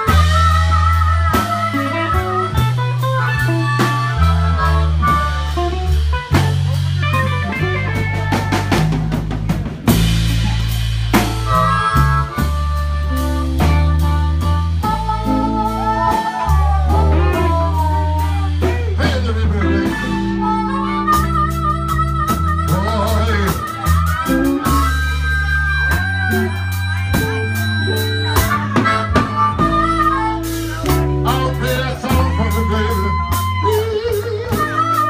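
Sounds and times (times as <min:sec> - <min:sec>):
blues band playing: 0:00.0 - 0:35.0
harmonica wailing bent notes: 0:00.0 - 0:35.0.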